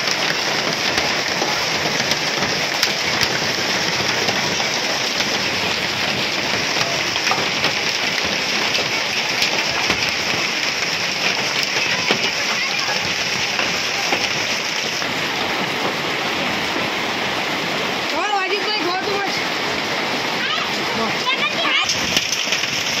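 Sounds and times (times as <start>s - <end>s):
hailstones ticking: 0.0s - 23.0s
heavy rain hiss: 0.0s - 23.0s.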